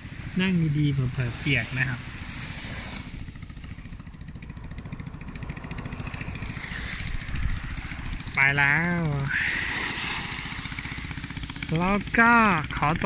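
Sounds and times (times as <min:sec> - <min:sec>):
boat engine puttering: 0:00.0 - 0:13.0.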